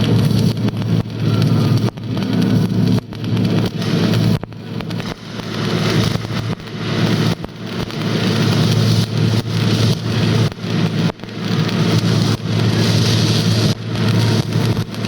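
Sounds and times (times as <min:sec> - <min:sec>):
arc welding crackling hiss: 0:00.0 - 0:15.0.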